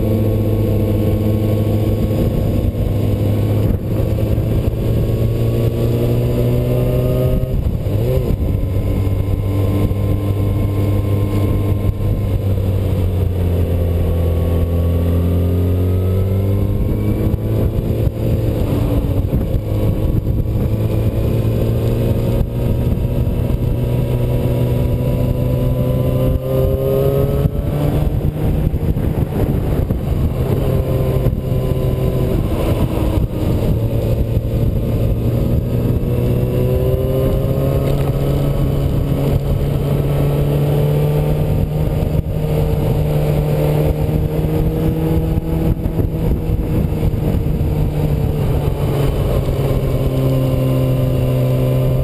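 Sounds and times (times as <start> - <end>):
motorcycle engine revving: 0.0 - 52.0
wind rumble: 0.0 - 52.0.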